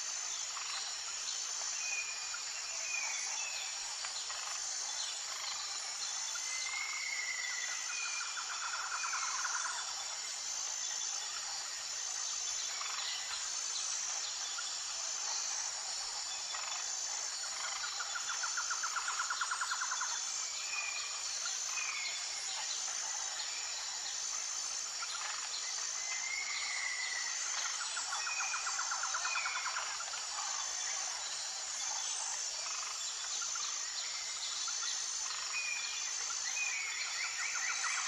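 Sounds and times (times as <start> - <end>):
insect chorus: 0.0 - 38.0
repeating insect chirp: 0.0 - 38.0.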